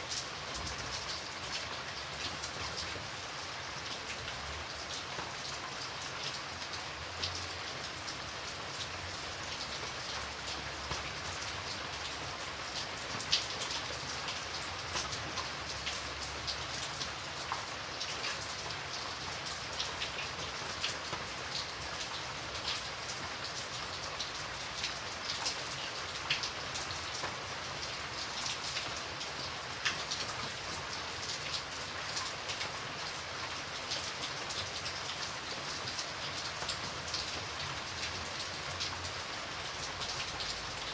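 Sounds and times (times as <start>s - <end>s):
raindrops ticking on a surface: 0.0s - 40.9s
steady rain hiss: 0.0s - 40.9s.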